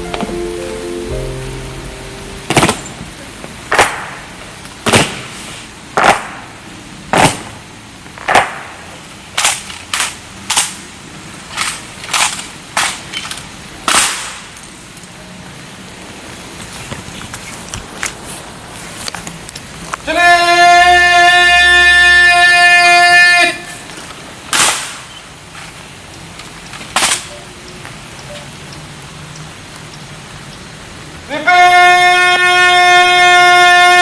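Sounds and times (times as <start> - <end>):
heavy rain hiss: 0.0 - 9.4, 10.2 - 34.0.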